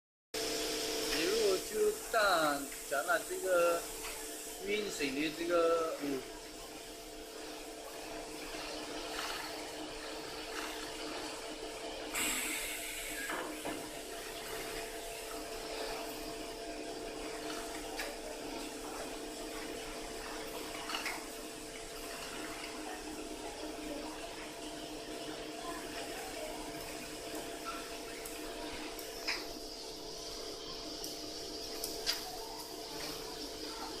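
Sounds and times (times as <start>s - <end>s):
sewing machine humming: 0.4s - 34.0s.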